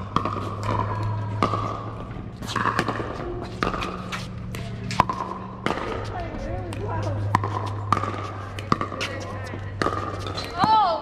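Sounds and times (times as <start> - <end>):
paddles hitting plastic ball: 0.0 - 11.0
steady low hum: 0.0 - 11.0.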